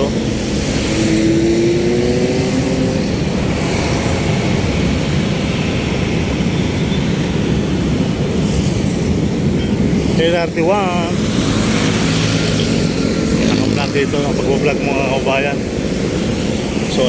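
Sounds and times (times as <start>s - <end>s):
ferry engine droning: 0.0s - 17.0s.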